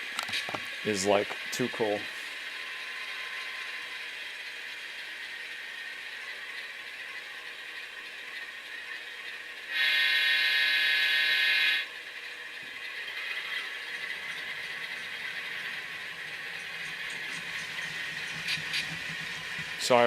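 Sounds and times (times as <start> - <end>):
model train diesel engine sounds: 0.0 - 20.0.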